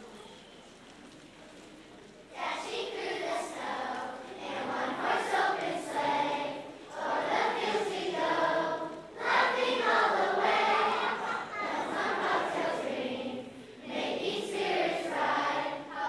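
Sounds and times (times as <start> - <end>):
children's chorus singing a carol: 2.3 - 16.0.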